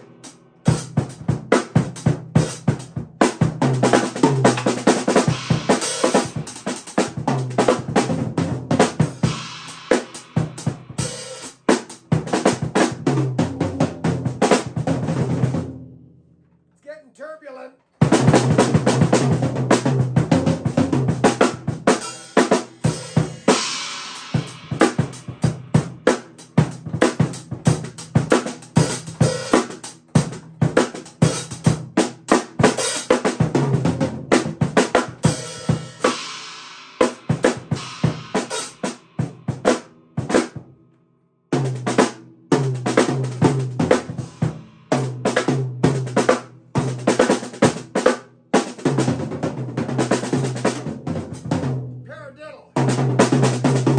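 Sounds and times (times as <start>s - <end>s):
drum kit played with sticks: 0.0s - 16.0s, 17.9s - 40.8s, 41.5s - 53.9s.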